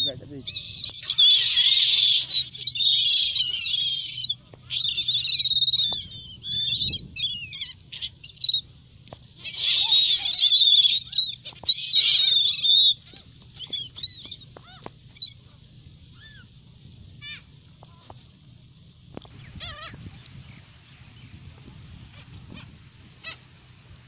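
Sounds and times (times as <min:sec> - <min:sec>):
gulls calling: 0:00.0 - 0:18.2, 0:19.2 - 0:24.0.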